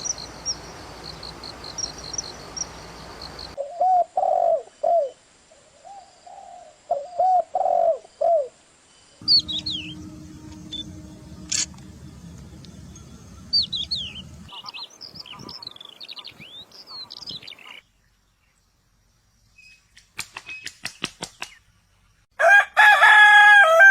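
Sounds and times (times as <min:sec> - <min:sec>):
songbird singing: 0:00.0 - 0:22.2.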